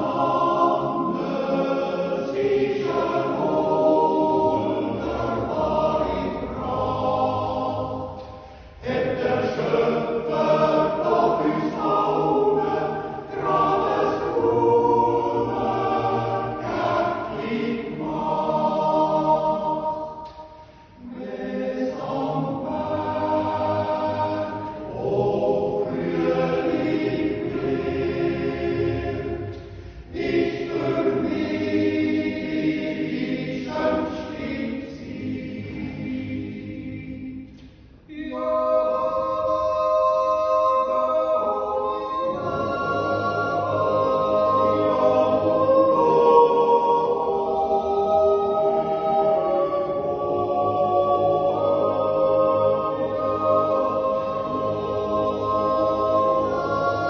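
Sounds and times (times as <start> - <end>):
men's choir yodelling a cappella: 0.0 - 57.0.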